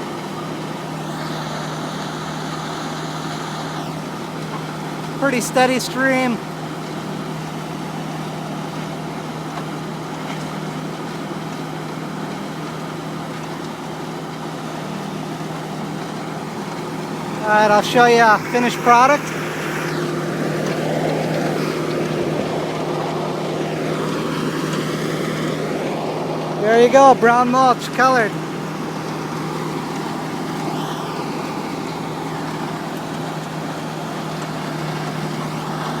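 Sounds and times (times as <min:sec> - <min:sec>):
wood grinder machine drone: 0:00.0 - 0:36.0.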